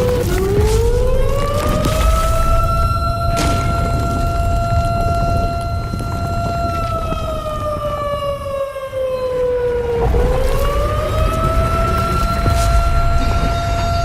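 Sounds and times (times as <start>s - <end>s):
alarm siren: 0.0s - 14.0s.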